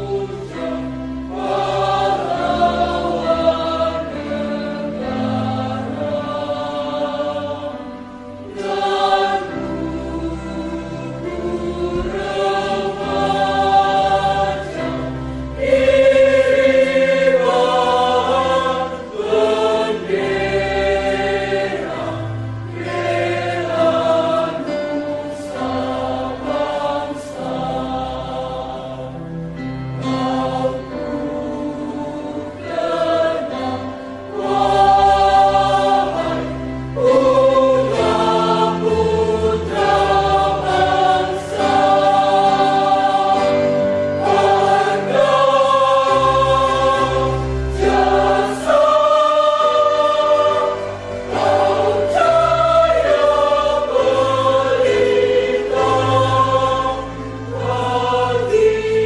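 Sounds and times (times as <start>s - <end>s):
choir singing slow chords: 0.0s - 59.0s.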